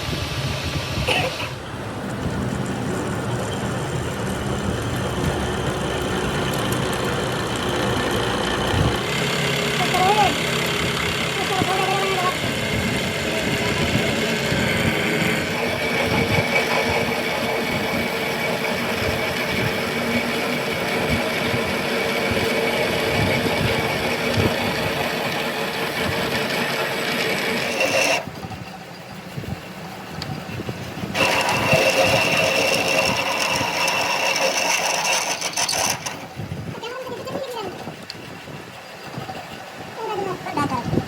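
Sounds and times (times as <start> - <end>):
engine knocking with whine: 2.0 - 41.0.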